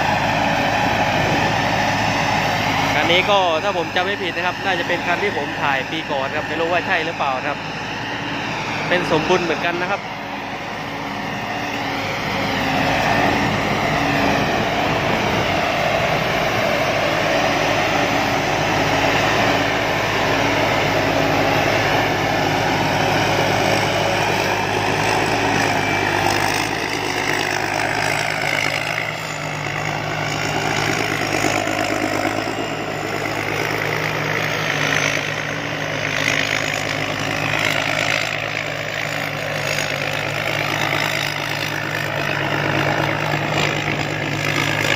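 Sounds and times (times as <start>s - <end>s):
combine harvester engine idling: 0.0s - 44.9s.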